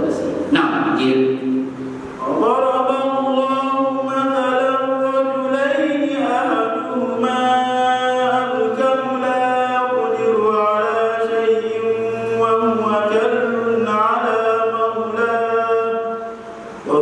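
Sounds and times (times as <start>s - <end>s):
man chanting into microphone: 2.2s - 17.0s.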